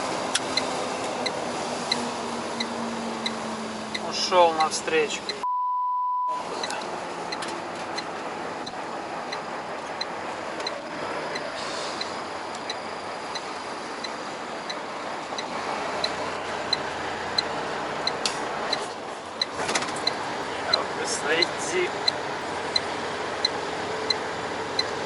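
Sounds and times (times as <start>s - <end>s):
road and engine noise in truck cab: 0.0s - 25.0s
turn signal ticking: 0.3s - 5.5s, 6.3s - 25.0s.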